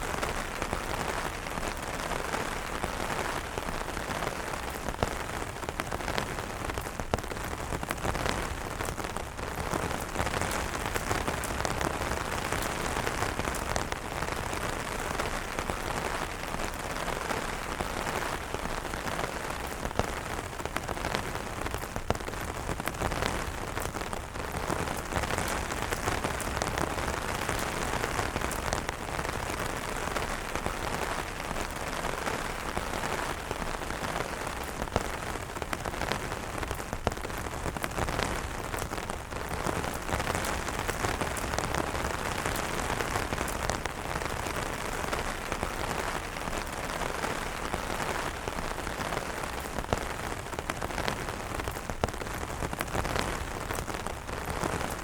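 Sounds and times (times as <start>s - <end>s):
rain falling on umbrellas: 0.0s - 55.0s.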